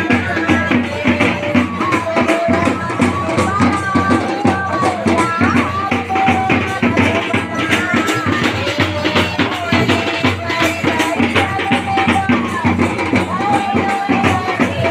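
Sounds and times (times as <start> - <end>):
busy drum percussion: 0.0 - 14.9.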